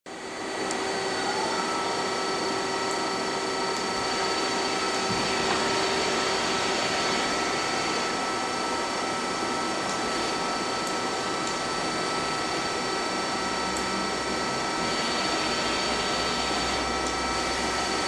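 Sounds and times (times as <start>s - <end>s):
lathe humming and whining: 0.1s - 18.0s.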